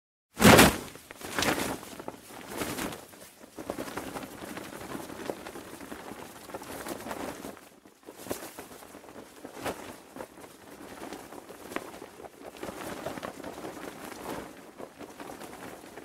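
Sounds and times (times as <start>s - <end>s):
parachute fabric flapping in wind: 0.3s - 16.0s.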